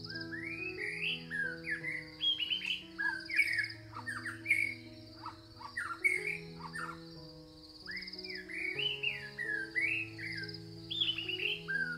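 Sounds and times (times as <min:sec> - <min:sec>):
crickets trilling: 0:00.0 - 0:11.9
soft music with held notes: 0:00.0 - 0:11.9
songbirds chirping and whistling: 0:00.0 - 0:11.9.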